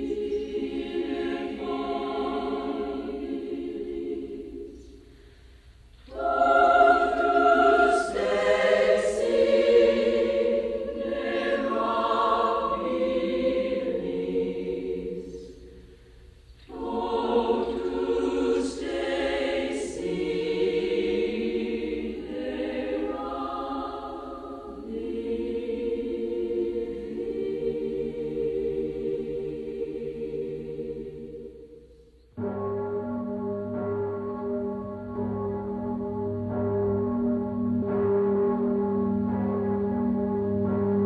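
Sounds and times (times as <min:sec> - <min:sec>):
choir singing held chords: 0:00.0 - 0:41.0.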